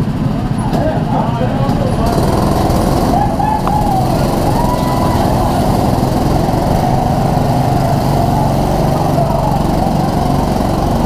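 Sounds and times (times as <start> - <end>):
go-kart engines running: 0.0 - 11.0.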